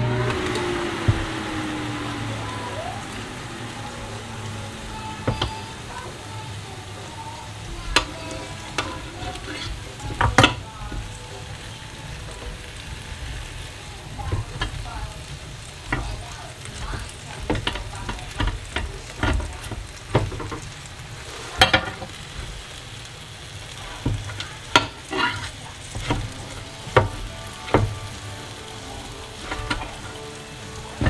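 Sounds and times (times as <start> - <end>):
ribs sizzling on a grill plate: 0.0 - 31.0
metal utensils scraping grill plate: 3.2 - 31.0.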